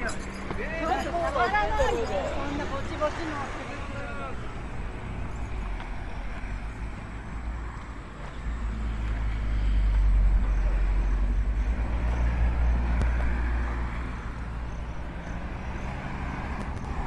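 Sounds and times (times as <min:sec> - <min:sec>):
vehicles driving past: 0:00.0 - 0:17.0.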